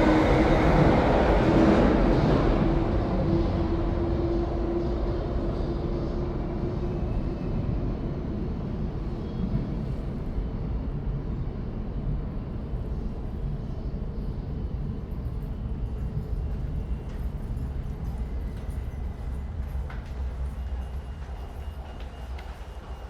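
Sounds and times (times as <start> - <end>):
underground train rumble: 0.0 - 23.0.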